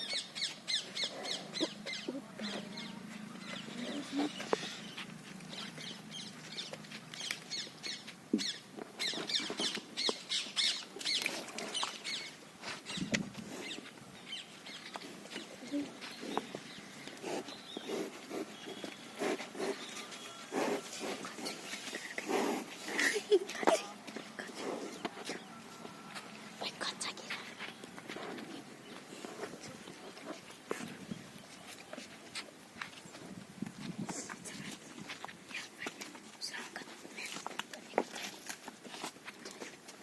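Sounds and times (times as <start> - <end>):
small birds chirping: 0.0 - 33.3, 33.9 - 38.2.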